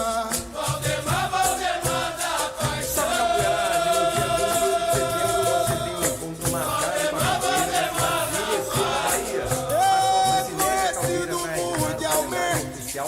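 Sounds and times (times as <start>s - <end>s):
berimbau rhythm: 0.0s - 13.0s
chorus singing: 0.0s - 13.0s
shaken rattle: 0.0s - 13.0s.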